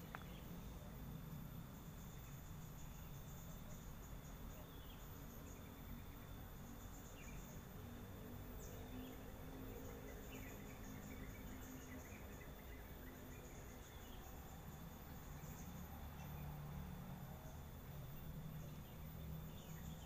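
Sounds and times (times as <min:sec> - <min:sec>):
faint chirps: 0:00.0 - 0:20.0
insects trilling: 0:00.0 - 0:20.0.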